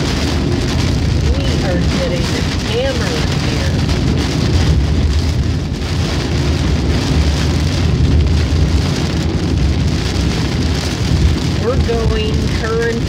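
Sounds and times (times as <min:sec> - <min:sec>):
heavy rain on car roof: 0:00.0 - 0:13.0
tyres and engine rumbling: 0:00.0 - 0:13.0.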